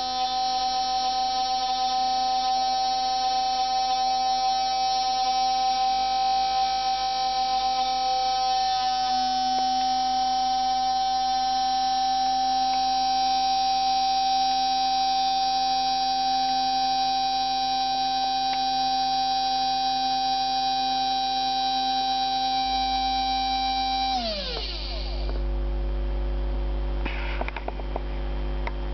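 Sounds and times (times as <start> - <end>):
lathe motor hum: 0.1 - 25.4.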